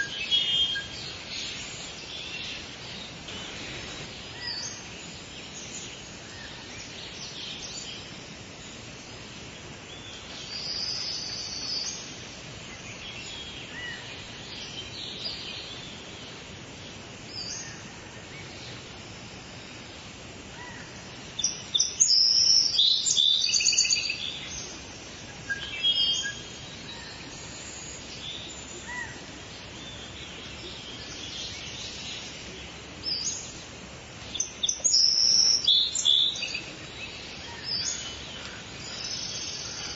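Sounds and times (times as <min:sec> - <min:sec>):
birds chirping and singing: 0:00.0 - 0:16.6, 0:20.6 - 0:39.9
background hiss: 0:00.0 - 0:39.9.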